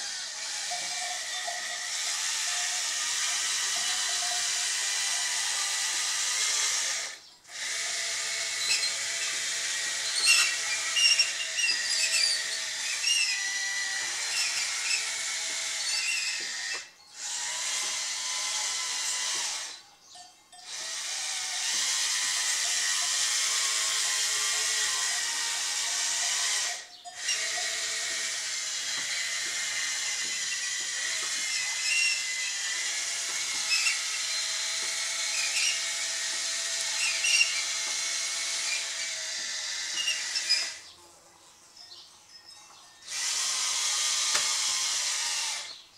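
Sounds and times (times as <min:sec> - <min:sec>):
electric motors whining: 0:00.0 - 0:19.9, 0:20.5 - 0:41.1, 0:43.0 - 0:45.9.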